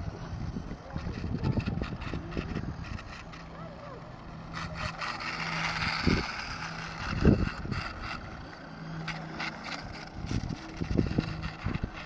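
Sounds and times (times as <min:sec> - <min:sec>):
small electric motor whirring: 0:00.0 - 0:12.0.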